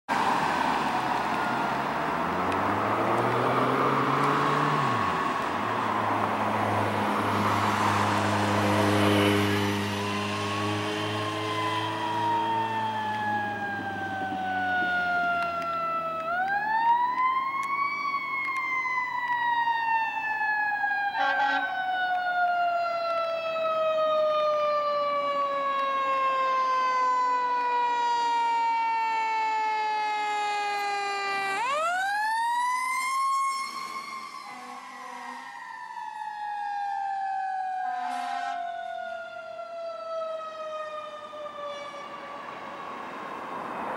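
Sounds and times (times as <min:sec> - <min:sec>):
car passing: 0:00.1 - 0:20.0, 0:21.8 - 0:43.9
fire engine siren wailing: 0:00.1 - 0:43.9.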